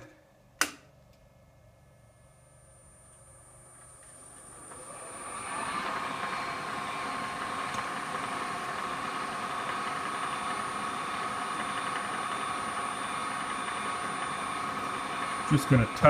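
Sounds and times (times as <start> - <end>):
milling machine spindle whine: 2.5 - 16.0.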